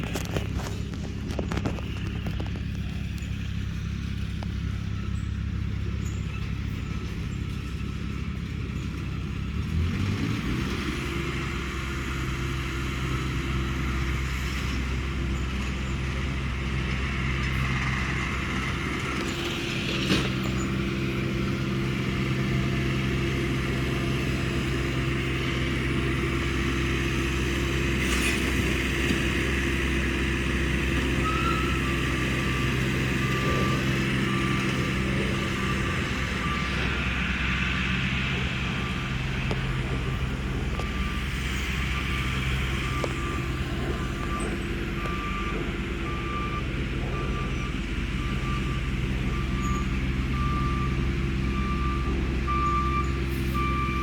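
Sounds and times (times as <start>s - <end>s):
large engine revving: 0.0s - 54.0s.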